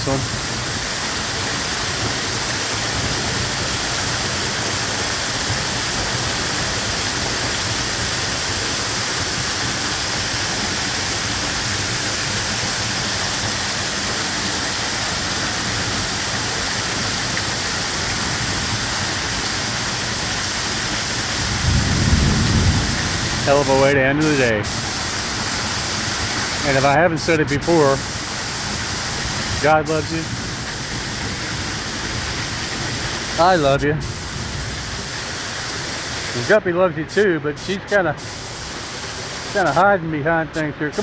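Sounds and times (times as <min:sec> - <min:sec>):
waterfall gushing: 0:00.0 - 0:41.0.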